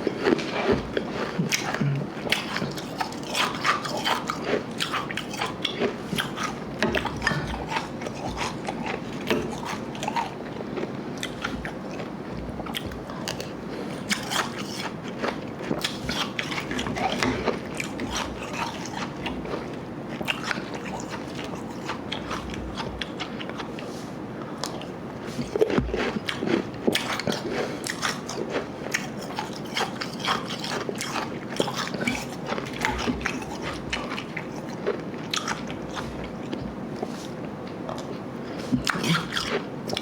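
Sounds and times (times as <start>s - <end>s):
ice being chewed: 0.0s - 40.0s.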